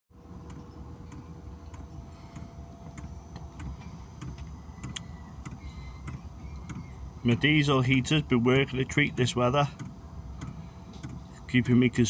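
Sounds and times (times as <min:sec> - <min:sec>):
burner and blower rumble: 0:00.2 - 0:12.0
fuel pump ticking: 0:00.4 - 0:12.0.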